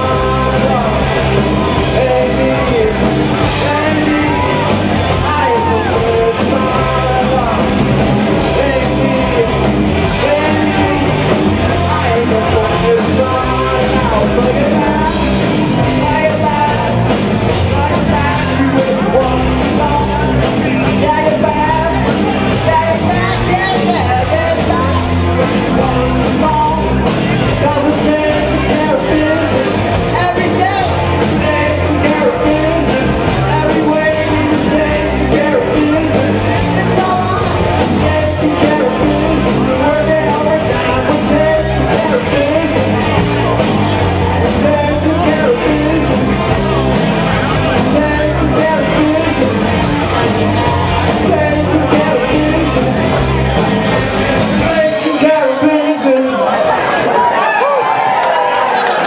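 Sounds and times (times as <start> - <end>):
live rock band with singer: 0.0 - 59.0.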